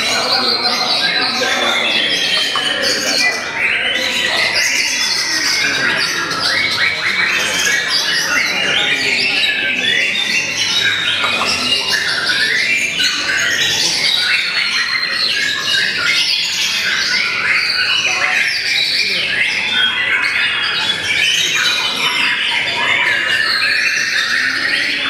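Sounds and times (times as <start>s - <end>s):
bird singing rapid varied phrases: 0.0s - 25.0s
other birds singing: 0.0s - 25.0s.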